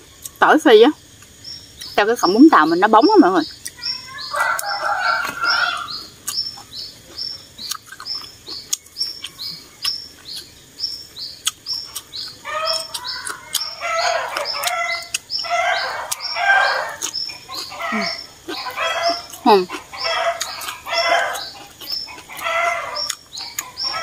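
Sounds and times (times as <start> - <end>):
bird chirping: 1.3 - 24.0.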